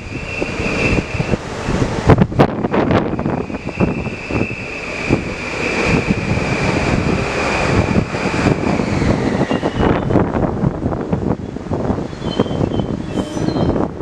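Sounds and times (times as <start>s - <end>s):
train rumble: 0.0s - 14.0s
wind buffeting microphone: 0.0s - 14.0s.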